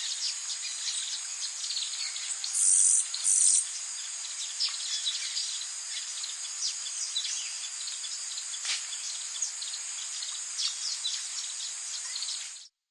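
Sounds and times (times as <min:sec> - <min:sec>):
bird chirps: 0:00.0 - 0:12.7
insects chorus: 0:00.0 - 0:12.7.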